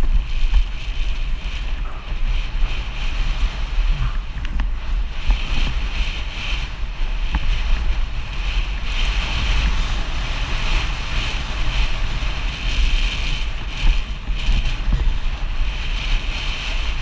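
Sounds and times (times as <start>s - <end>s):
bike tyres rattling on gravel: 0.0s - 17.0s
wind buffeting microphone: 0.0s - 17.0s.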